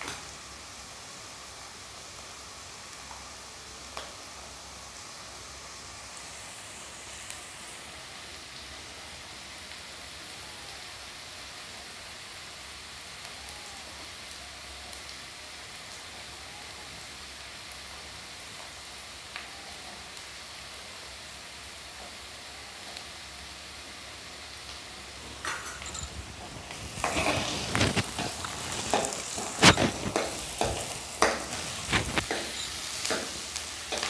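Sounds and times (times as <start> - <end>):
onions sizzling in oil: 0.0 - 34.0.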